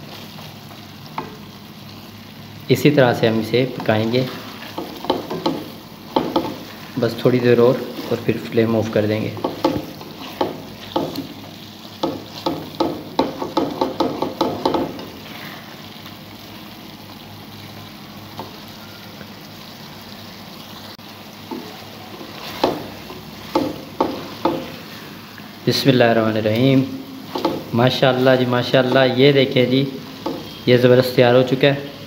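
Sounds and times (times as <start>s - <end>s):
lentils sizzling in oil: 0.0s - 32.0s.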